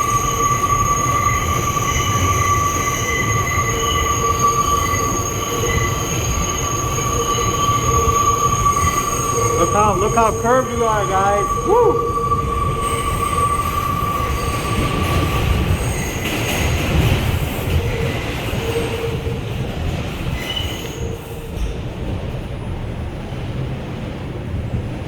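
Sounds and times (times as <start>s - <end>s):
train wheels squealing: 0.0s - 21.9s
running train rumble: 0.0s - 25.0s.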